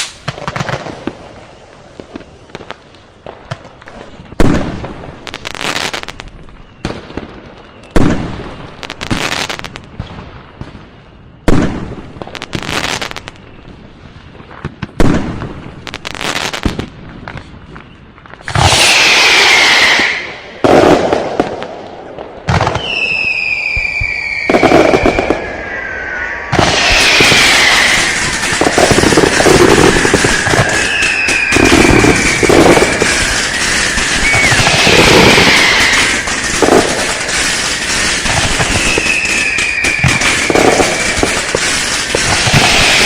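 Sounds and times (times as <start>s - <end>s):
falling firework whistles: 0.0s - 2.7s, 3.9s - 13.8s, 17.3s - 21.2s, 22.6s - 43.0s
firework bangs with crackling: 0.0s - 43.0s
firework barrage: 0.0s - 43.0s.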